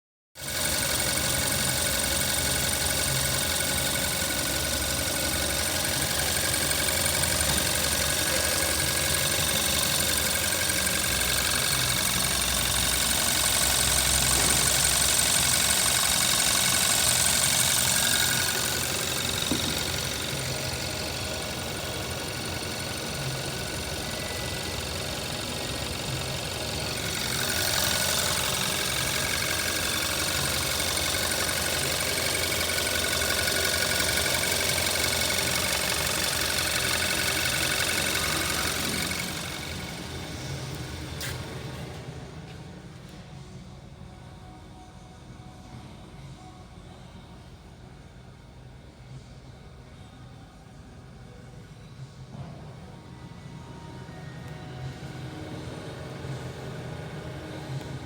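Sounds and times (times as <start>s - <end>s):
car engine idling: 0.4s - 44.1s, 52.2s - 58.0s.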